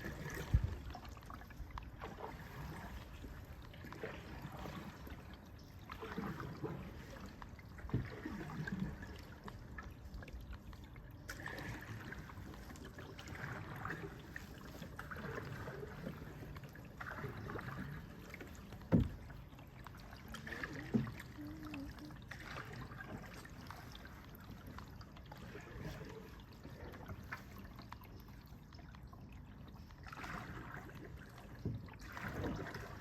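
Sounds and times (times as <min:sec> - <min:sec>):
canoe paddles pulling through water: 0:00.0 - 0:33.0
water trickling off paddle blades: 0:00.0 - 0:33.0.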